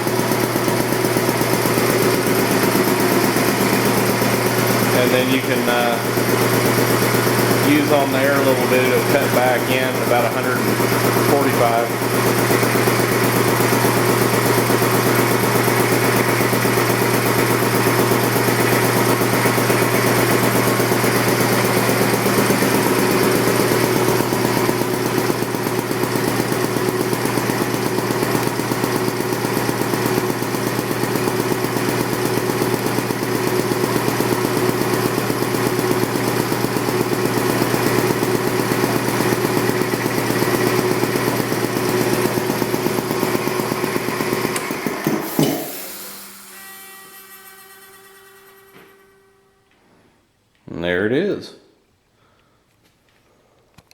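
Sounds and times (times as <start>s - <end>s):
air compressor running: 0.0s - 50.0s.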